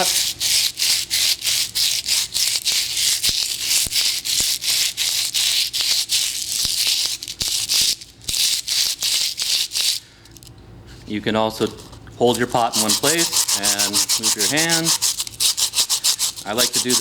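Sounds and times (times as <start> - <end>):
sandpaper scratching clay pot: 0.0 - 10.0, 11.6 - 17.0.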